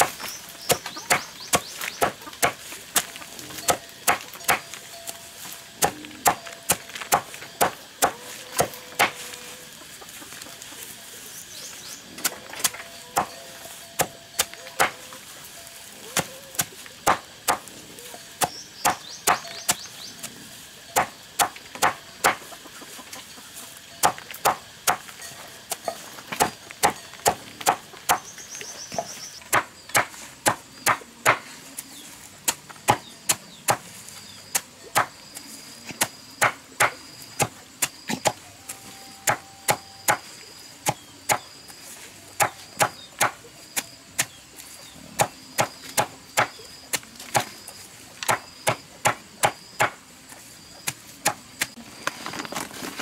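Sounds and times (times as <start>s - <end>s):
cleaver chopping leafy greens: 0.0s - 22.6s, 23.5s - 53.0s.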